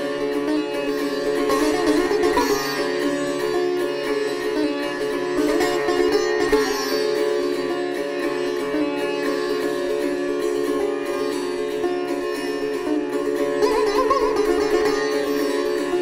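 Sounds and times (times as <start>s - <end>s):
sitar playing: 0.0s - 16.0s
tanpura drone: 0.0s - 16.0s.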